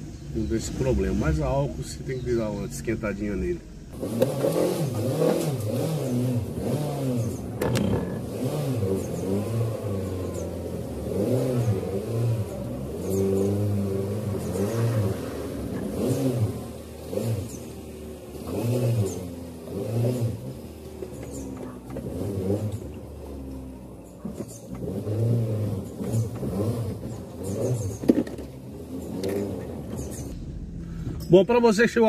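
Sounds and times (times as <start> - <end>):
car engine revving and misfiring: 0.0 - 32.0.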